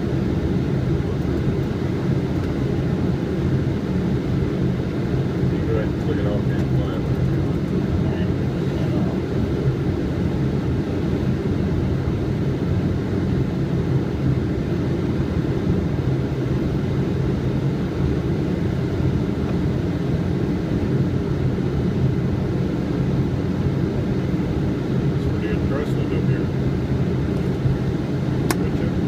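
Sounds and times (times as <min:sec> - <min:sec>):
low rumble of airflow and engine: 0:00.0 - 0:29.0.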